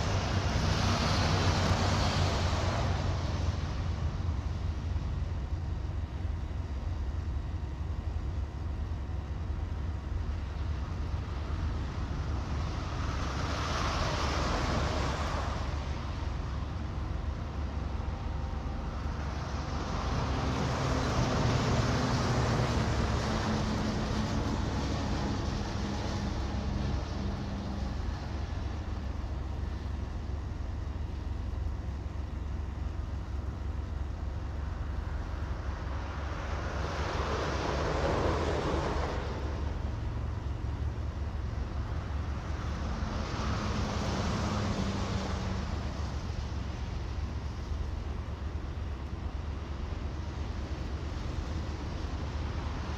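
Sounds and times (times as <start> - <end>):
engine hum: 0.0 - 52.9
low vehicle rumble: 0.0 - 52.9
vehicles passing: 0.0 - 52.9.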